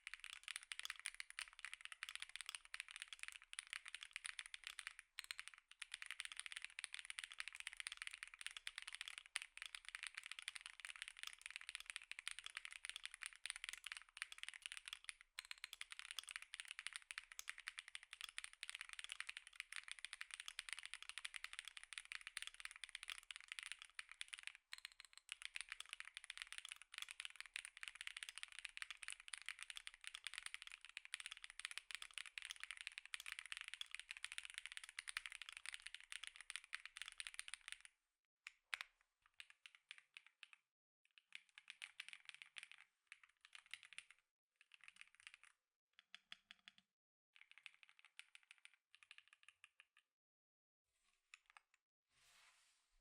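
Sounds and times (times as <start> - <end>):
fast typing on mechanical keyboard: 0.0 - 37.9, 41.3 - 45.5, 47.4 - 49.8.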